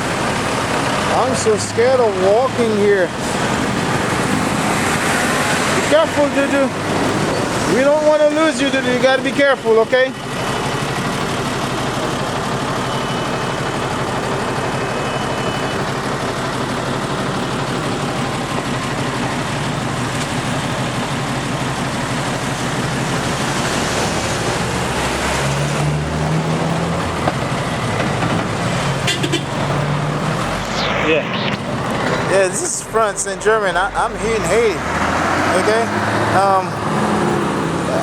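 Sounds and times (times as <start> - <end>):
rush of road traffic: 0.0 - 38.0
vehicle engine humming: 0.0 - 38.0.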